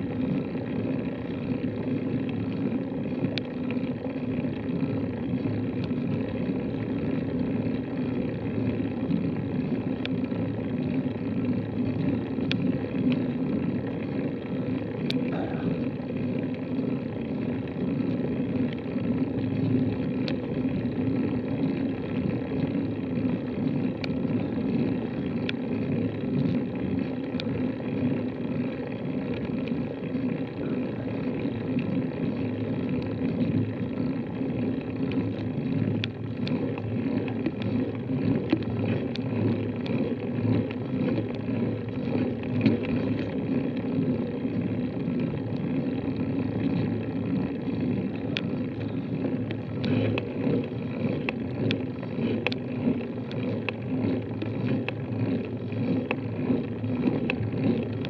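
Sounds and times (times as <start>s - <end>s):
wind and rolling noise: 0.0s - 58.0s
faint clicks: 2.2s - 4.7s, 5.4s - 6.4s, 8.6s - 13.4s, 14.0s - 16.9s, 17.9s - 58.0s.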